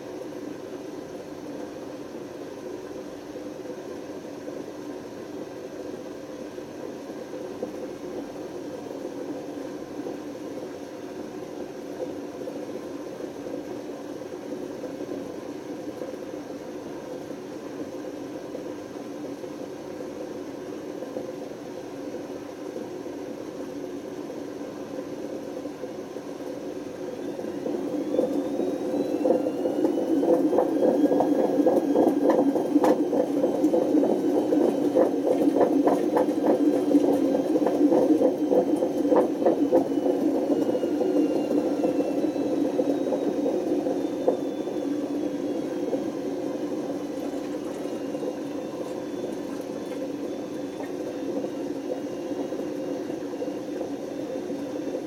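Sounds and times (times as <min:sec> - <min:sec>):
faint whine: 0:00.0 - 0:55.0
washing machine spinning: 0:00.0 - 0:55.0.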